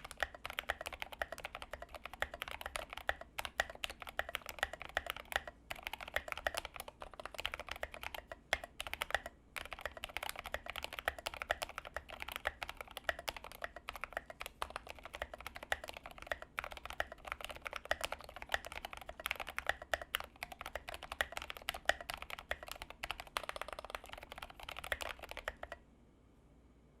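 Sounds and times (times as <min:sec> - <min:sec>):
mechanical keyboard typing: 0:00.0 - 0:25.8.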